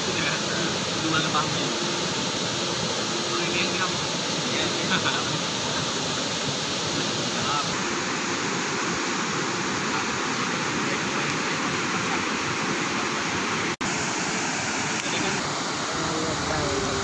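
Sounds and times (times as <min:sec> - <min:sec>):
river rushing over rocky rapids: 0:00.0 - 0:17.0.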